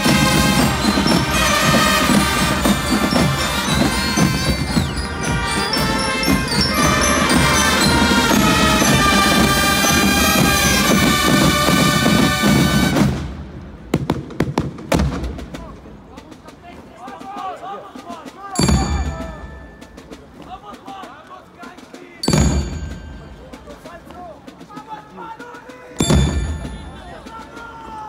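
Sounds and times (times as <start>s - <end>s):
marching band brass and drums: 0.0s - 28.0s.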